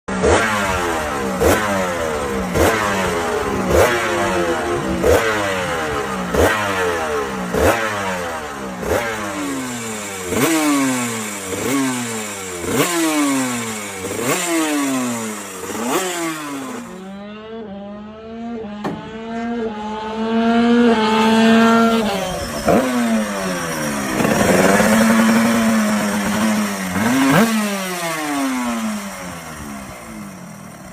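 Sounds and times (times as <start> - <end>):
motorcycle engine revving: 0.1 - 30.9.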